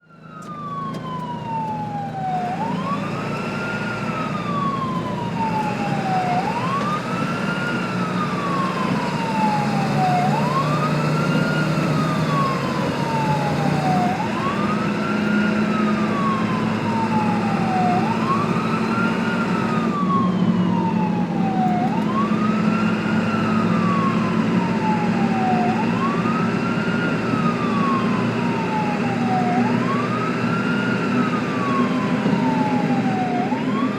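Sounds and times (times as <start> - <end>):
ambulance siren wailing: 0.0 - 33.9.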